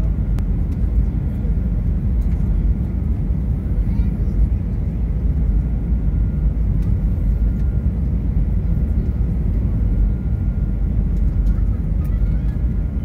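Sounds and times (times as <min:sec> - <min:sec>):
jet cabin engine rumble: 0:00.0 - 0:13.0.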